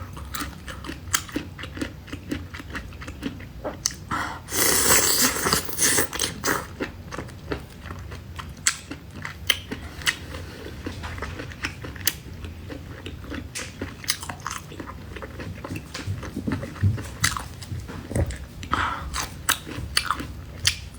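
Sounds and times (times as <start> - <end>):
person eating and chewing: 0.0 - 20.9.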